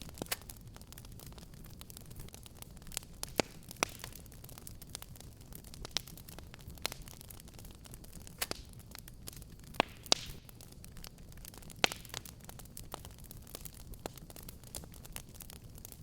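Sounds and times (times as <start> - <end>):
fire pops and snaps: 0.0 - 16.0
low rumble of burning: 0.0 - 16.0.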